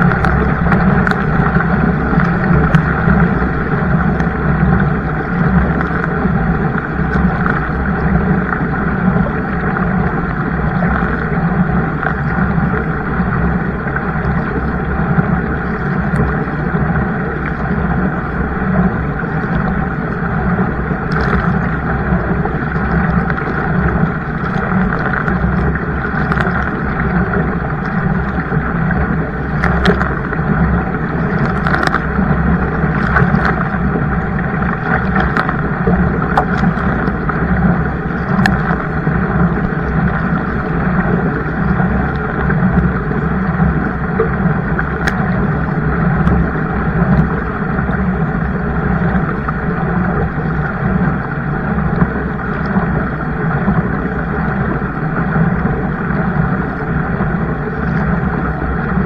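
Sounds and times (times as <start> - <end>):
kayak rushing through water: 0.0 - 59.0.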